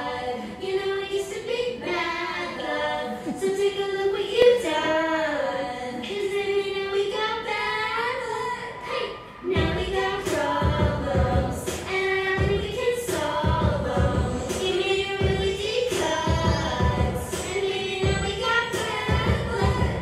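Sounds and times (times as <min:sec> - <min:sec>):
girl singing into microphone: 0:00.0 - 0:20.0.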